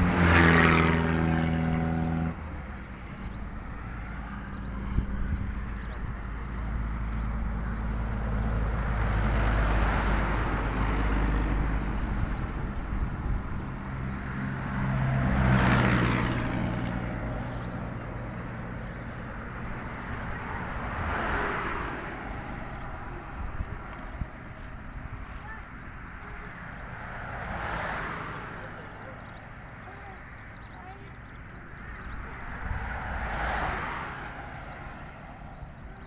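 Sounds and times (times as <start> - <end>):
road vehicles passing by: 0.0 - 36.0.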